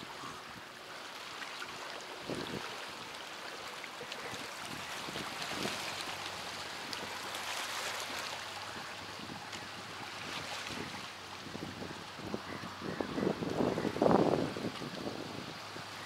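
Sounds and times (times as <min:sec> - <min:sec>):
soft water splashes: 0:00.0 - 0:16.0
waves lapping on stony shore: 0:00.0 - 0:16.0.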